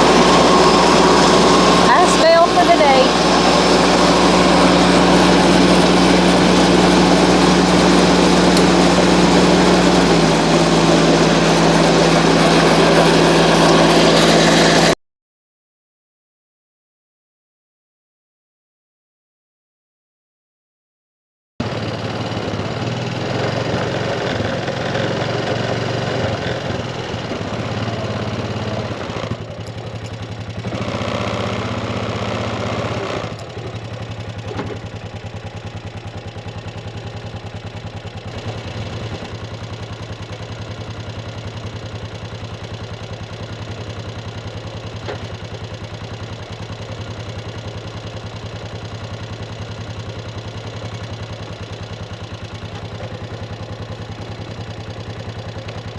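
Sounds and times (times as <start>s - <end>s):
engine running: 0.0s - 15.0s, 21.6s - 55.9s.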